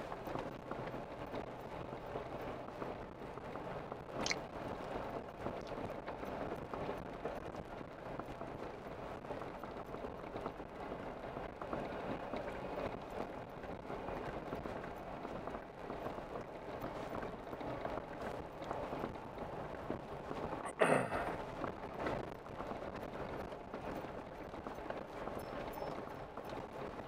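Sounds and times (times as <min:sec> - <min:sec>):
off-road vehicle crawling: 0:00.0 - 0:27.0.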